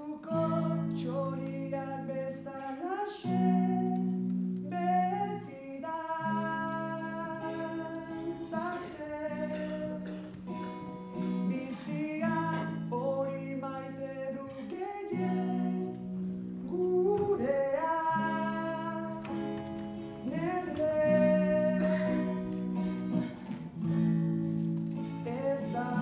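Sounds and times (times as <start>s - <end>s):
electric guitar slow melody: 0.0s - 26.0s.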